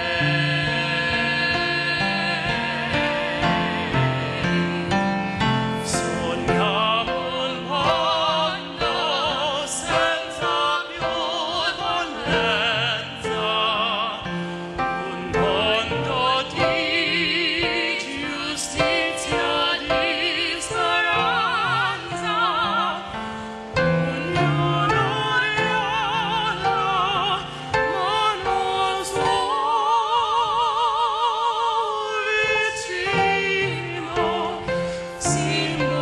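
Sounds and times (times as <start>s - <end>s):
man and woman singing duet: 0.0s - 36.0s
piano: 0.0s - 36.0s.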